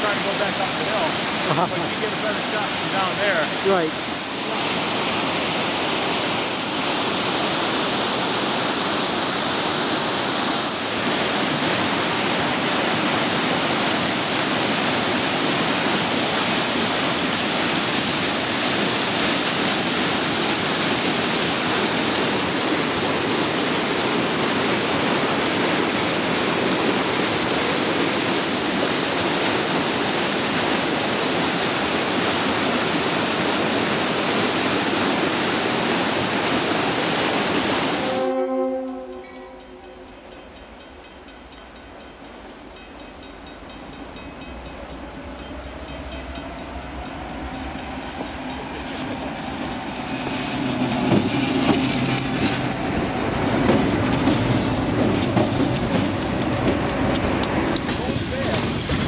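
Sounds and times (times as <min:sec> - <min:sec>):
rushing water of waterfall: 0:00.0 - 0:59.0.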